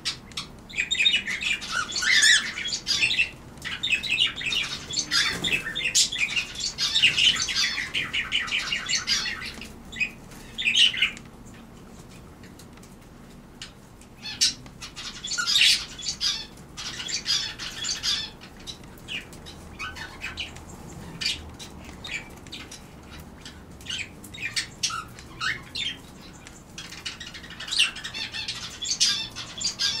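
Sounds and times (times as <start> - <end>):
cockatiels squawking and chirping: 0.0 - 11.3, 13.6 - 30.0.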